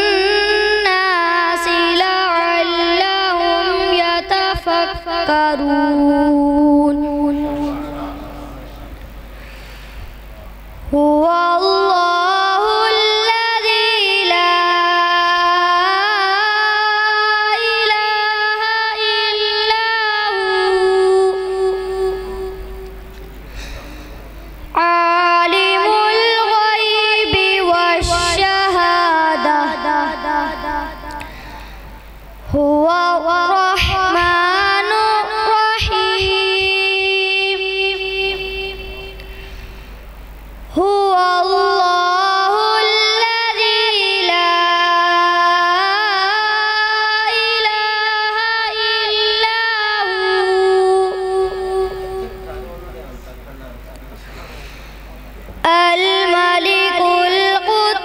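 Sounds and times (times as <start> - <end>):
boy reciting melodically: 0.0 - 39.9, 40.6 - 53.0, 55.6 - 58.0.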